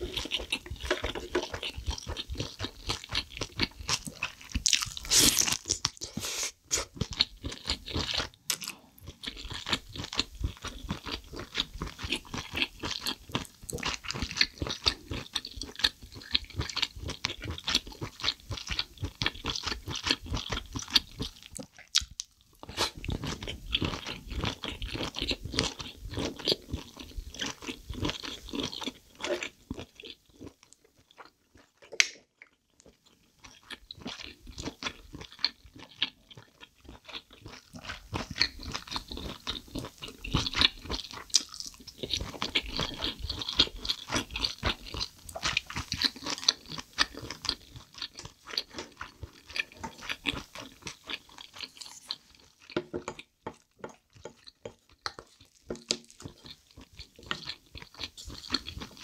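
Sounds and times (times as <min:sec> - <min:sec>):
wet crunchy chewing: 0:00.0 - 0:59.0.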